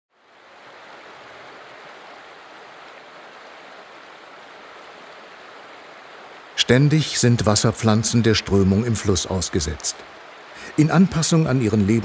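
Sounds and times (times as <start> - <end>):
river water rushing: 0.1 - 12.0.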